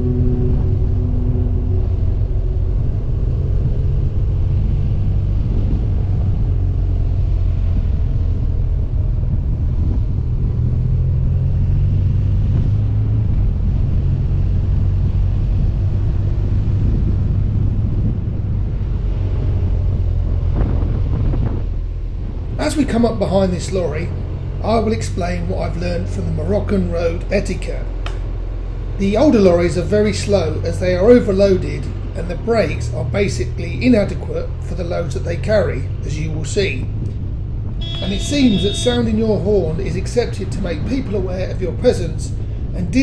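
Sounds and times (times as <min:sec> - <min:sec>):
wind and road noise: 0:00.0 - 0:43.0.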